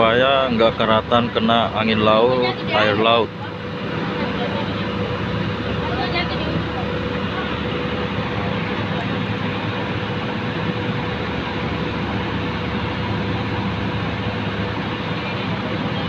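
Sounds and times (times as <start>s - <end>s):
diesel machinery droning: 0.0s - 16.0s.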